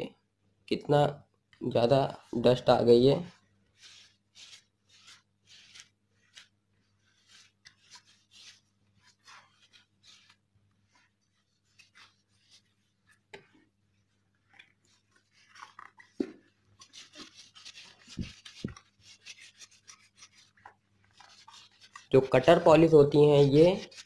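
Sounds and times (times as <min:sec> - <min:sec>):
cloth rubbing on plastic: 0:02.2 - 0:24.0.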